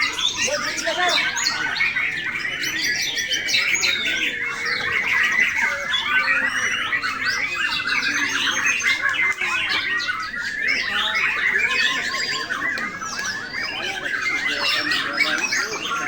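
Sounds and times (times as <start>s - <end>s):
songbirds whistling and chirping: 0.0s - 16.0s.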